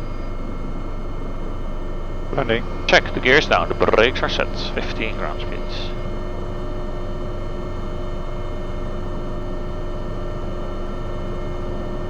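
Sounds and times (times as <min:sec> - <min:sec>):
constant whine: 0:00.0 - 0:12.0
helicopter cockpit rumble: 0:00.0 - 0:12.0.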